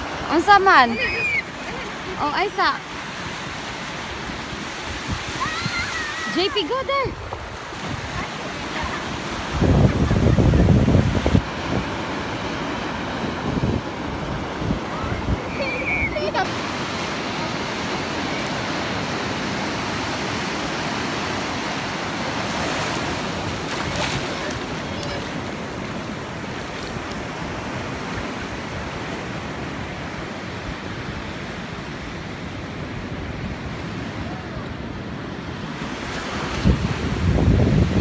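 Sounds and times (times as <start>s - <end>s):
wind buffeting microphone: 0.0s - 31.5s, 35.7s - 38.0s
surf washing onto beach: 0.0s - 38.0s.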